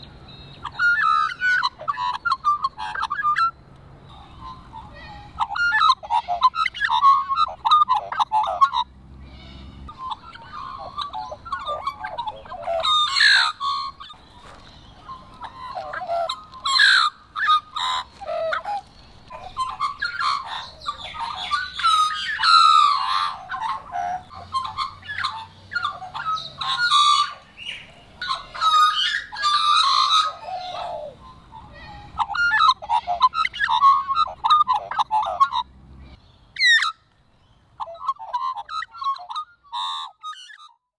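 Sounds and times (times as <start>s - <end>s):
magpies singing and warbling: 0.0s - 40.8s.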